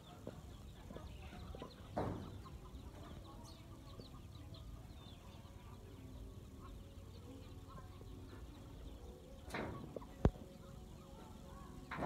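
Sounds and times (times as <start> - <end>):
chicken-like cluck: 0.0 - 12.0.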